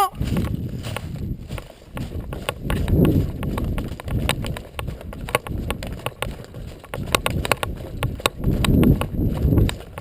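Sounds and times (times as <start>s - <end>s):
footsteps through dry undergrowth: 0.0s - 10.0s
twigs snapping: 0.3s - 10.0s.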